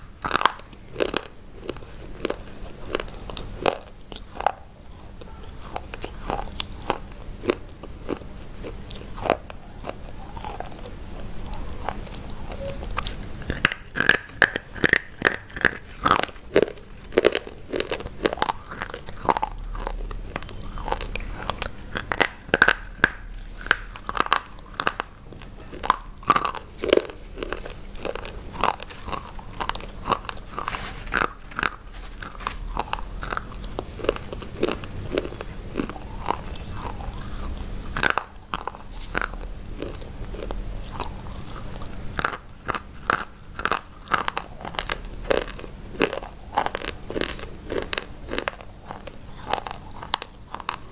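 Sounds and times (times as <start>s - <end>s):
crunchy biting and chewing: 0.0s - 50.9s.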